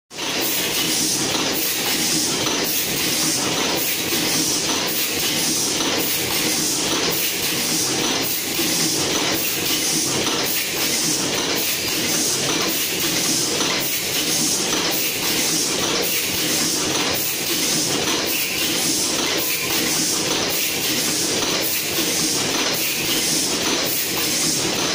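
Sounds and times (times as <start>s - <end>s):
machine clattering: 0.2s - 24.9s.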